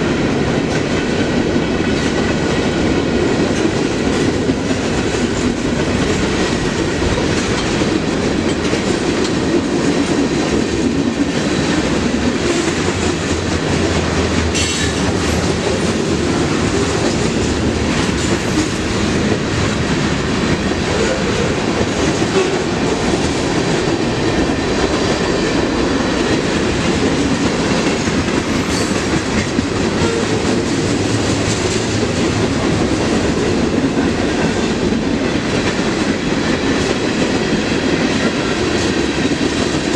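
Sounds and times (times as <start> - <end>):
freight train wheels rumbling on rails: 0.0 - 39.9
clickety-clack over rail joints: 0.1 - 39.9.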